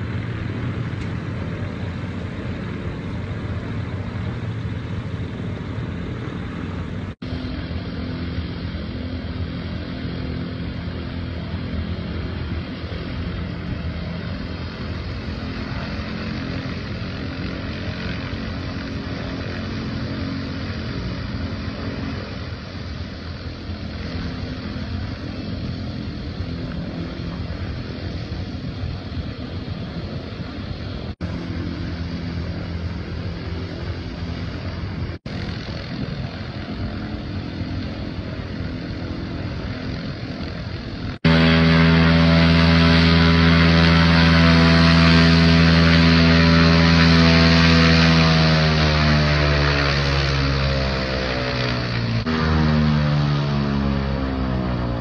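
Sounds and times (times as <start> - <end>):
propeller engines droning: 0.0 - 55.0.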